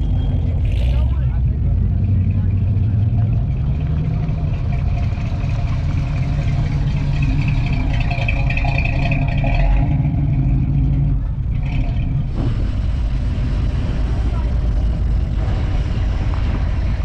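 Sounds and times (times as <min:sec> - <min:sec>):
car engines rumbling past: 0:00.0 - 0:17.0.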